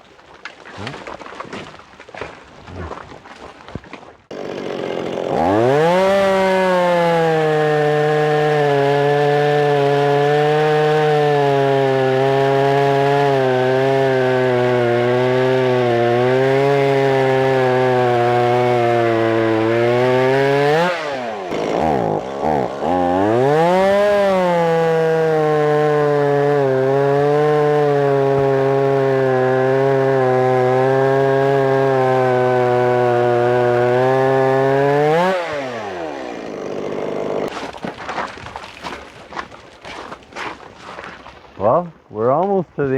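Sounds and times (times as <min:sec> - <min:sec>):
chainsaw cutting wood: 0:03.8 - 0:41.5.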